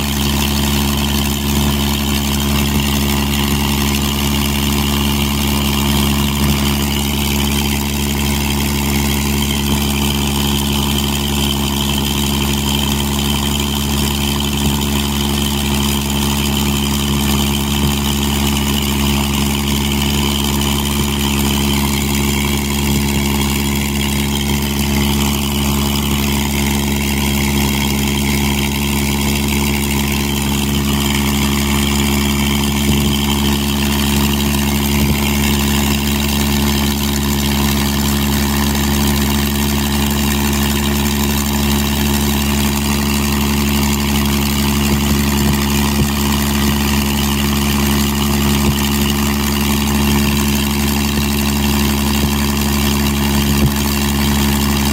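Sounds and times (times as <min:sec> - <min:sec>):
aircraft engine running: 0:00.0 - 0:54.9
propeller turning: 0:00.0 - 0:54.9.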